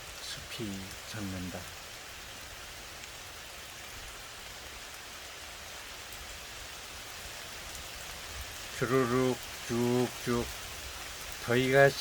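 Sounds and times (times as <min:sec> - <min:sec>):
rain falling on forest: 0:00.0 - 0:12.0.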